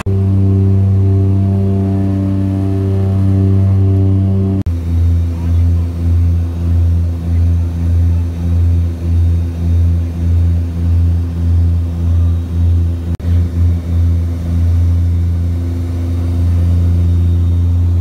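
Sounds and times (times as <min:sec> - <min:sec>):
propeller airplane engines droning: 0:00.0 - 0:18.0.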